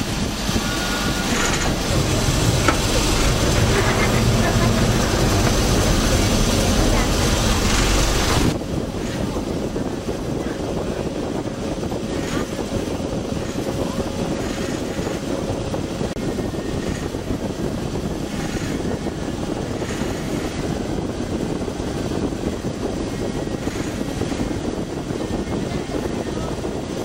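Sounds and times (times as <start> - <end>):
boat engine drone: 0.0 - 27.0.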